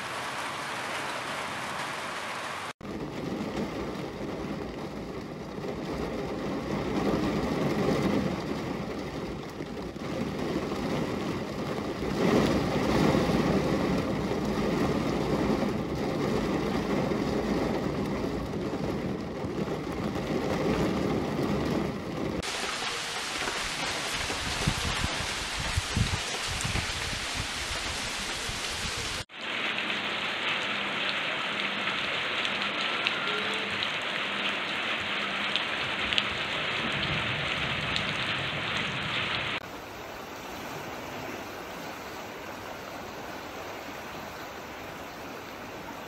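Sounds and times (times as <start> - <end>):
rain on car windshield: 0.0 - 39.7
rain dripping from roof edge: 0.0 - 46.0.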